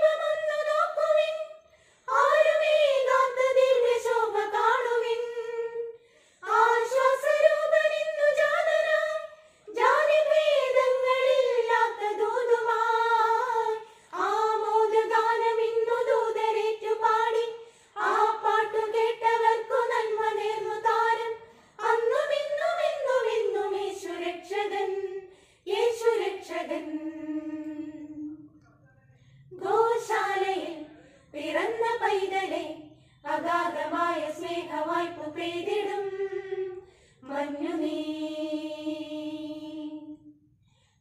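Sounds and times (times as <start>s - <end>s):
women singing together: 0.0s - 28.4s, 29.5s - 40.5s.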